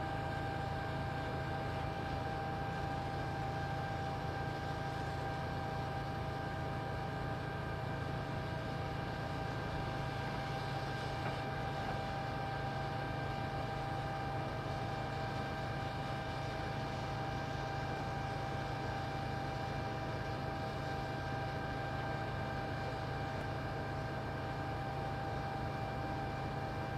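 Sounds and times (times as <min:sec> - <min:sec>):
constant machine whine: 0:00.0 - 0:26.9.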